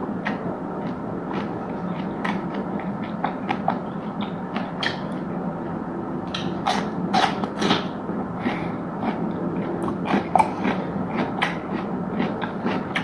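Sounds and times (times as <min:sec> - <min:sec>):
person chewing and crunching food: 0:00.2 - 0:05.2, 0:06.3 - 0:13.0.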